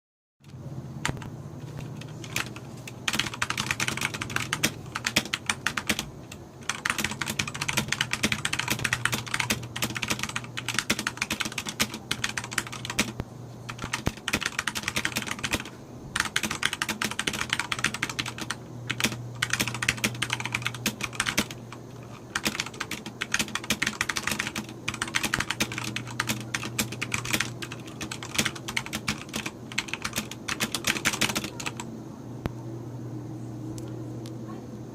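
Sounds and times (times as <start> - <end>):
mechanical keyboard typing: 0.4 - 31.9
steady low hum: 0.4 - 34.9.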